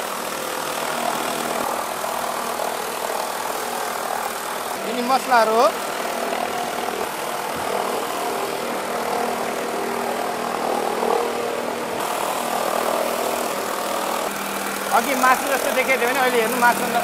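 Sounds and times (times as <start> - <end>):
bowl cutter machine hum: 0.0 - 17.0.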